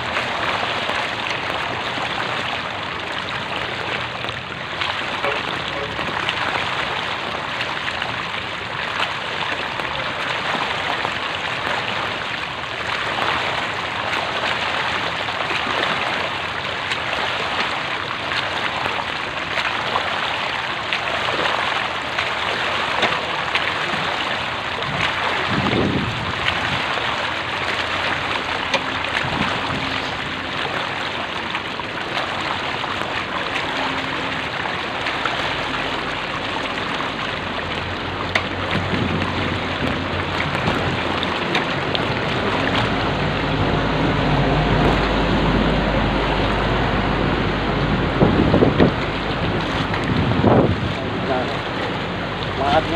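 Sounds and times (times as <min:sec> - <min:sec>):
floodwater splashing: 0:00.0 - 0:52.9
low engine rumble: 0:00.0 - 0:52.9.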